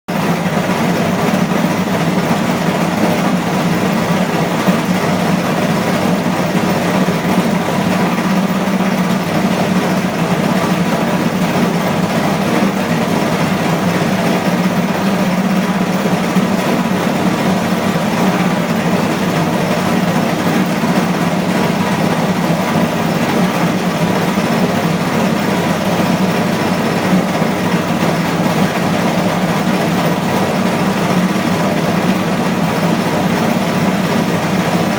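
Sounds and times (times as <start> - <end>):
washing machine spinning: 0.1 - 34.9.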